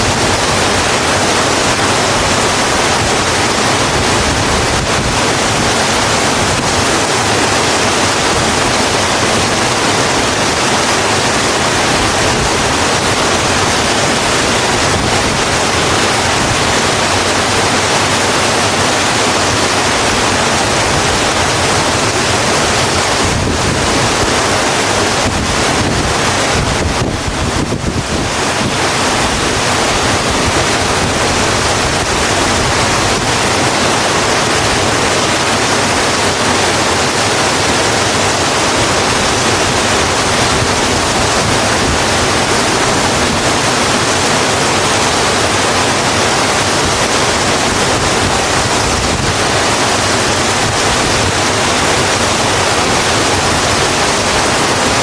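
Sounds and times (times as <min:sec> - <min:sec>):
heavy rainfall hiss: 0:00.0 - 0:55.0.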